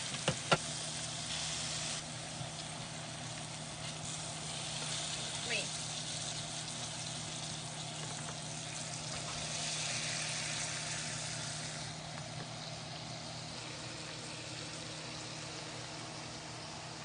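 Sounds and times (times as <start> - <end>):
low steady hum: 0.0 - 17.0
meat sizzling in a frying pan: 0.0 - 17.0.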